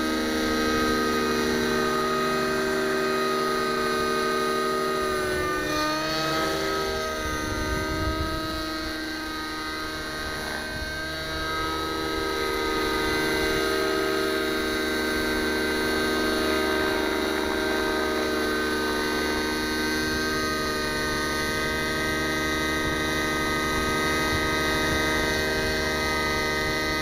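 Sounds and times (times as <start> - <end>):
model helicopter engine whine: 0.0 - 27.0.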